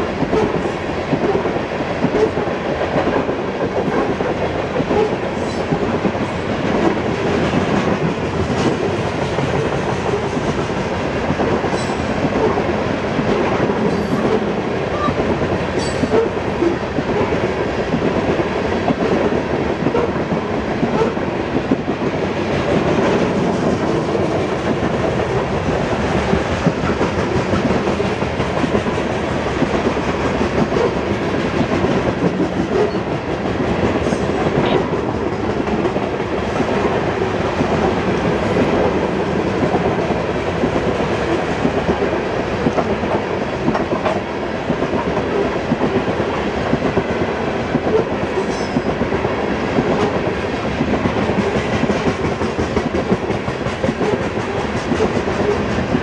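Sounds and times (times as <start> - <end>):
rail cars rattling: 0.0 - 56.0
steel wheels running on rails: 0.0 - 56.0.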